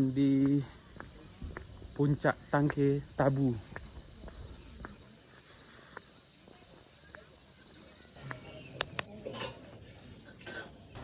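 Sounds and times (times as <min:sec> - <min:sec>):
crickets chirring: 0:00.0 - 0:09.1.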